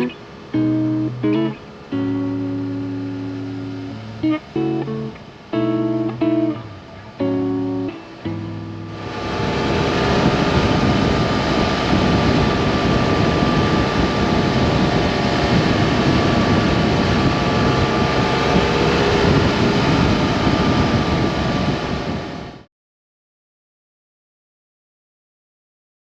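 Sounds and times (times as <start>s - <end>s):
motorcycle engine humming: 0.0s - 22.2s
wind rushing: 0.0s - 22.7s.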